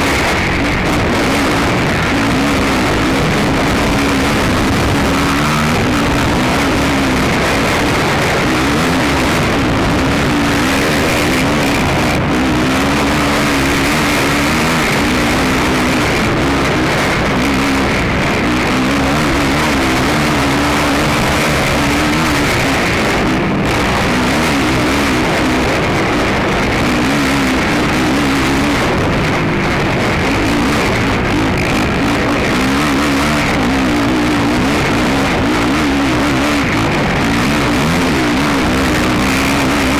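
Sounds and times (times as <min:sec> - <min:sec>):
quad engine revving: 0:00.0 - 0:39.9
steady rushing noise: 0:00.0 - 0:39.9.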